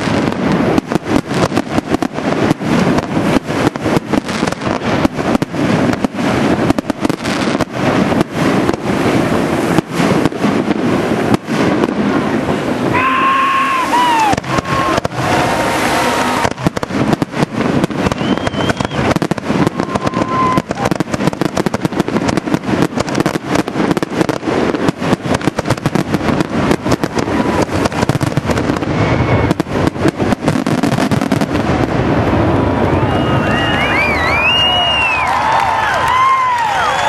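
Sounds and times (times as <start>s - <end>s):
fireworks bangs and crackles: 0.0s - 37.0s
fireworks whistles: 0.0s - 37.0s.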